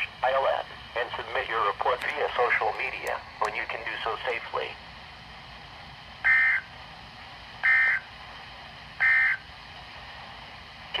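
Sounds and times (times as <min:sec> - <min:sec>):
low radio hiss: 0:00.0 - 0:11.0.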